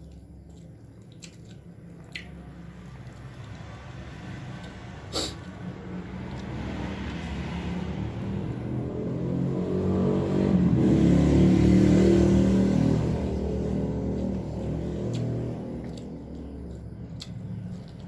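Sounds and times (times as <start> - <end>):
vehicle engine running: 1.8 - 18.0.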